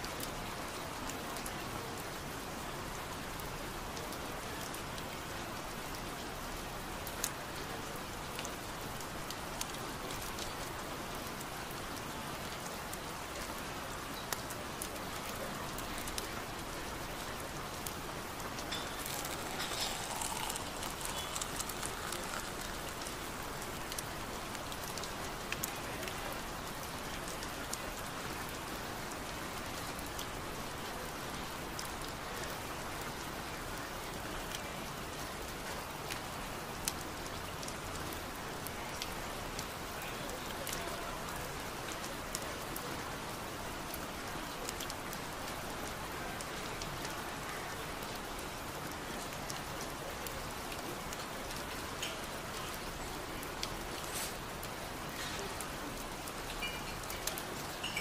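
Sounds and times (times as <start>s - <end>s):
steady rain falling: 0.0s - 58.0s
sharp raindrop ticks: 3.2s - 32.2s, 34.4s - 58.0s.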